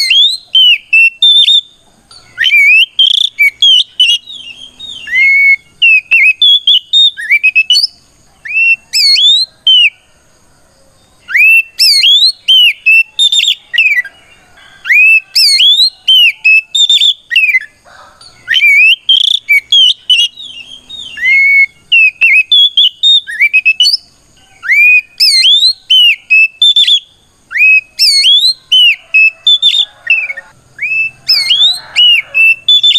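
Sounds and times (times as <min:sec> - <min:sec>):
bird singing whistled notes: 0:00.0 - 0:10.0, 0:11.0 - 0:32.9.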